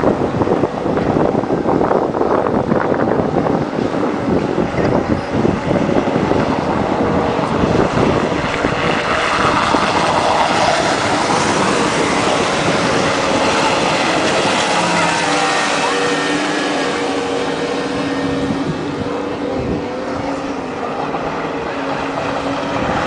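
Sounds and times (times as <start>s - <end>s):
race boat engines droning: 0.0s - 23.0s
wind buffeting microphone: 0.0s - 23.0s.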